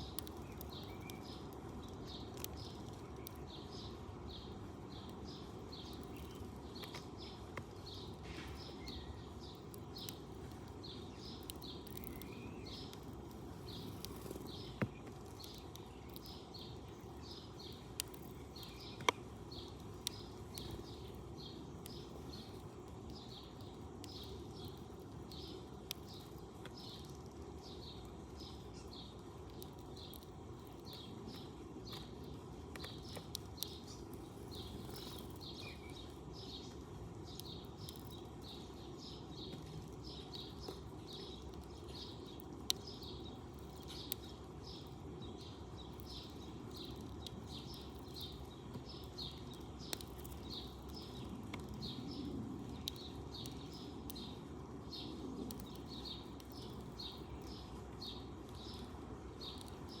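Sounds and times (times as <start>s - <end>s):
sparrow chirping: 0.0s - 60.0s.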